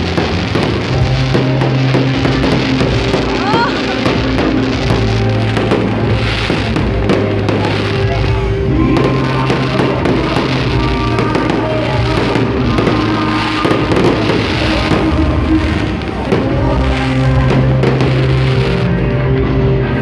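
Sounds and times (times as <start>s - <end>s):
fireworks bangs and crackles: 0.0s - 20.0s
loud music with heavy bass: 0.0s - 20.0s.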